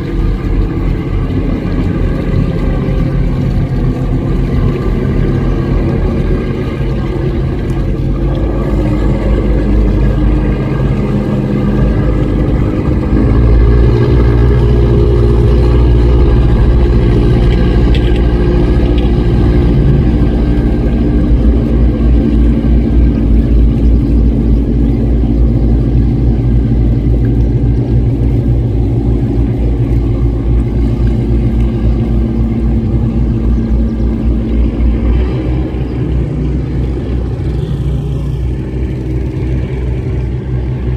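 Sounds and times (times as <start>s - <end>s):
boat engines running hard: 0.0s - 40.9s.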